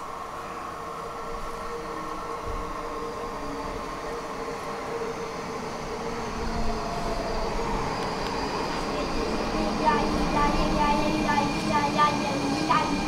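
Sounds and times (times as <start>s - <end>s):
train rumble: 0.0s - 13.0s
train whining tones: 0.0s - 13.0s.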